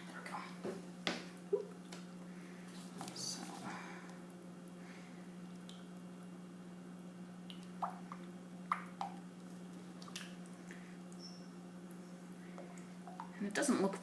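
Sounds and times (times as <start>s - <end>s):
steady low hum: 0.0s - 14.0s
soft drips and wet splats: 0.1s - 6.2s, 6.8s - 13.7s.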